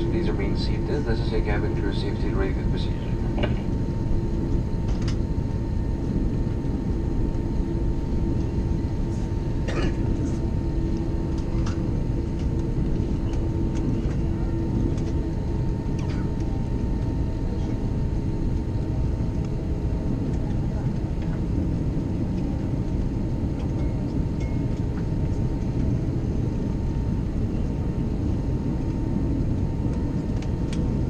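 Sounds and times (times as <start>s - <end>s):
aircraft cabin rumble: 0.0s - 31.0s
faint steady whine: 0.0s - 31.0s
low hum: 0.0s - 31.0s.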